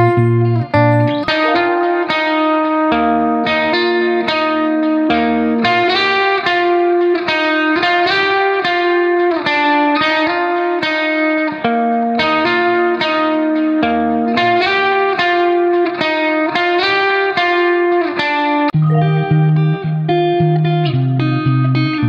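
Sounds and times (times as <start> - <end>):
guitar picking plucked notes: 0.0 - 22.0.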